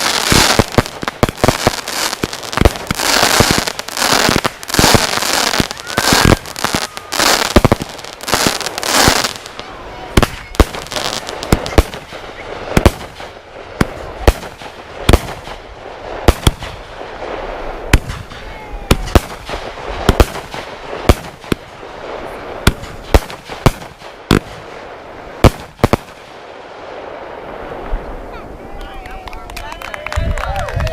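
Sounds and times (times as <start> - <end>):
firework bangs: 0.0 - 28.4
firework crackling: 0.0 - 30.9.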